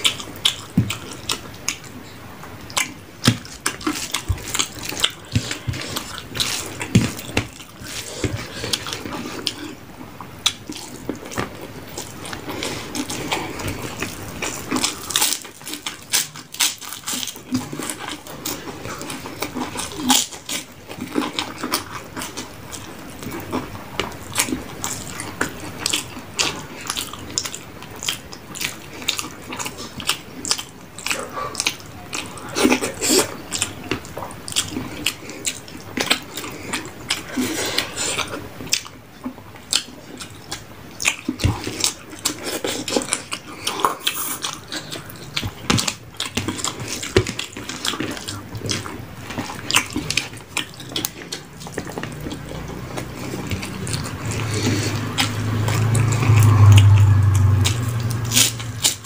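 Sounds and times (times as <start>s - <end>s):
person chewing and crunching: 0.0s - 59.0s.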